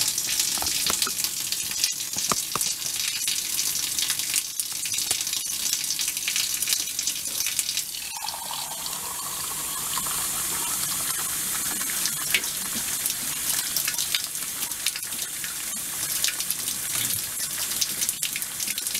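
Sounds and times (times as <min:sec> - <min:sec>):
water filling a mug: 0:00.0 - 0:16.6
faucet running water: 0:00.0 - 0:18.9.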